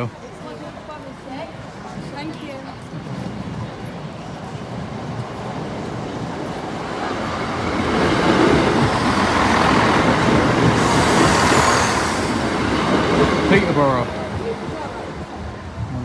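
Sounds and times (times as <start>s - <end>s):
diesel train passing: 0.0s - 16.0s.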